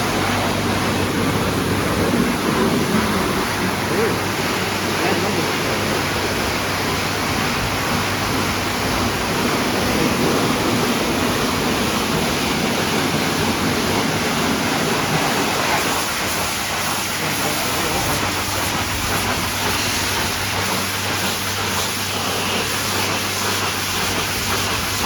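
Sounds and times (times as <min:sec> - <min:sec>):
low pump hum: 0:00.0 - 0:25.0
water spray hissing: 0:00.0 - 0:25.0.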